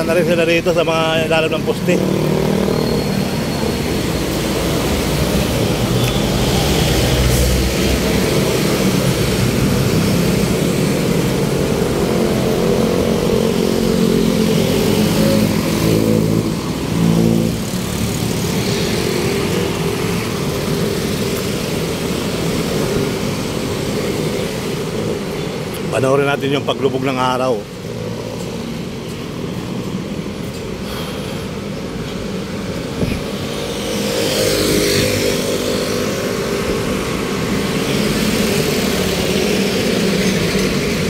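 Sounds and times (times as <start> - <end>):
road noise: 0.0 - 41.0.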